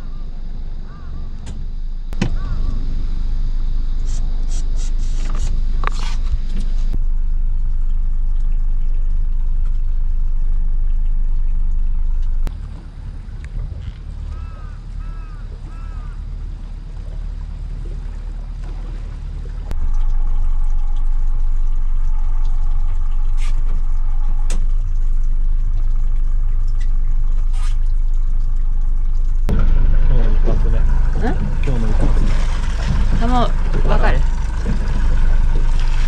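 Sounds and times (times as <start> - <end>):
boat engine idling: 0.0 - 36.0
water lapping at hull: 0.0 - 36.0.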